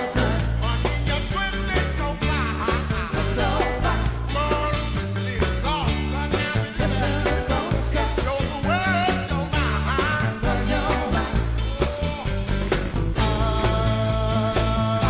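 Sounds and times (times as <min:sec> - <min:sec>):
person singing: 0:00.0 - 0:15.0
reggae pop band playing: 0:00.0 - 0:15.0.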